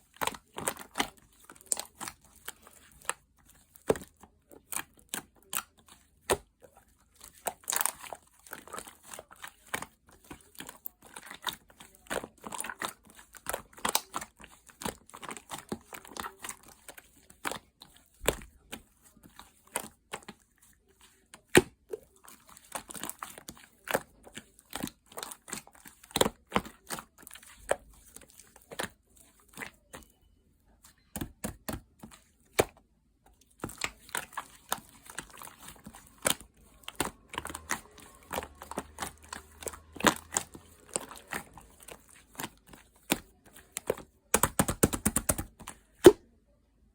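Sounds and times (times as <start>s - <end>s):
sticky slime stretching: 0.0s - 30.2s, 31.0s - 46.2s.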